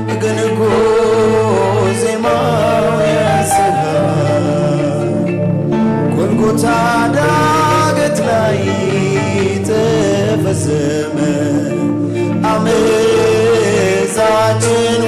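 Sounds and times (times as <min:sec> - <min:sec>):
man singing gospel song: 0:00.0 - 0:15.0.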